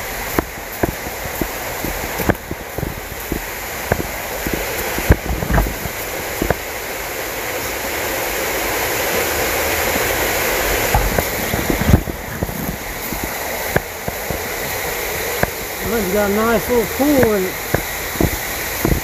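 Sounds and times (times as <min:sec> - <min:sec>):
rushing creek water: 0:00.0 - 0:19.0.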